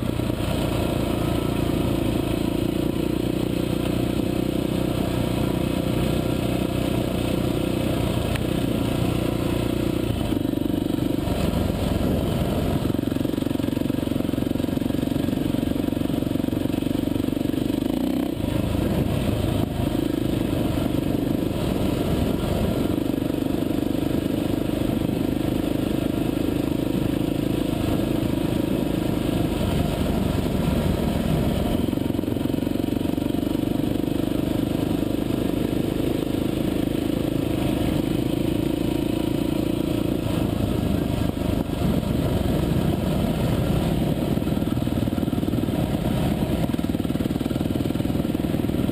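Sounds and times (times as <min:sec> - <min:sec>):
motorcycle engine running hard: 0:00.0 - 0:48.9.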